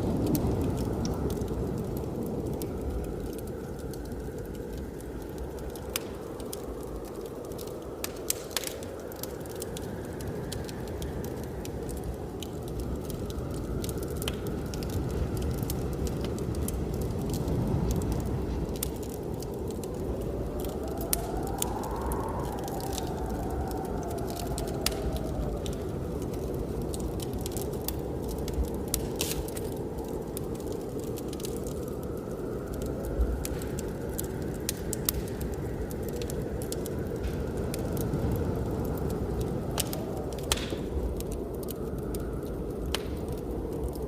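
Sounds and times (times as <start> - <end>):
blizzard wind: 0.0 - 44.0
whistling wind: 0.0 - 44.0
wood fire crackling and popping: 0.0 - 44.0.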